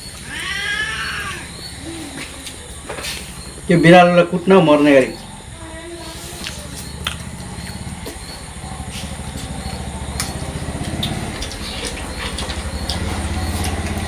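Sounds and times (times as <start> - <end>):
motor engine running: 1.2 - 14.0.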